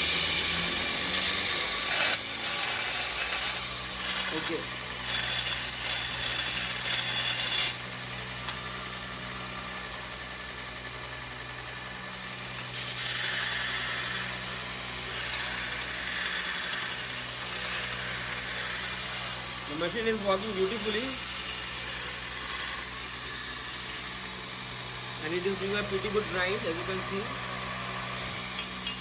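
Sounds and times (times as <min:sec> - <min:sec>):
belt grinder grinding: 0:00.0 - 0:29.0.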